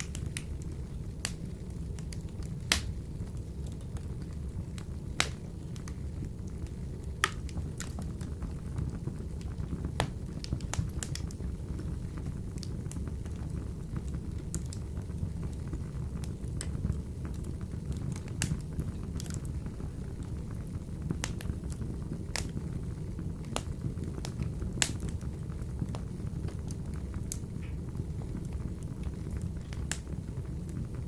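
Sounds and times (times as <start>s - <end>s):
fire flames rumbling: 0.0s - 31.0s
logs crackling and popping: 0.0s - 31.0s.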